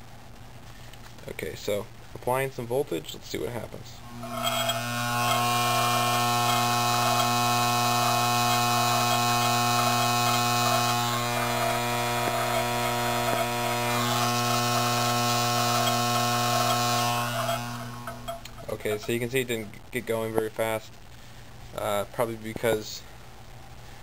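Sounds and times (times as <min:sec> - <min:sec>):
loud electrical hum: 0:00.0 - 0:22.0.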